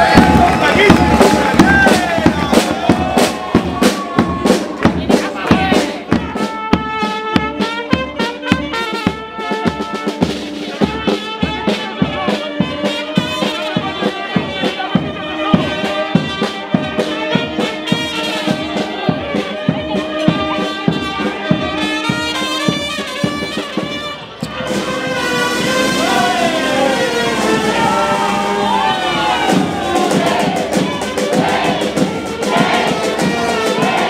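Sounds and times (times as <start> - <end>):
steady bass drum beat: 0.0 - 34.0
trumpets: 0.0 - 34.0
tuba: 4.5 - 34.0
saxophone: 6.0 - 34.0.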